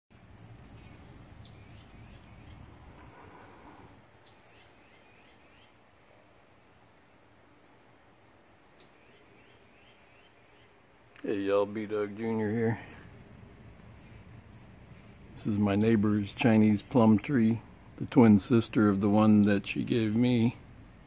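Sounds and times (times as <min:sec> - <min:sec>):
faint birds chirping: 0:00.1 - 0:21.0.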